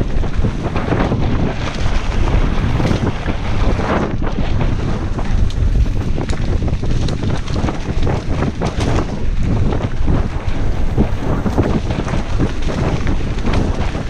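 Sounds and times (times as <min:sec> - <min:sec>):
bike rattling: 0:00.0 - 0:14.0
tyres rumbling on dirt trail: 0:00.0 - 0:14.0
wind buffeting microphone: 0:00.0 - 0:14.0.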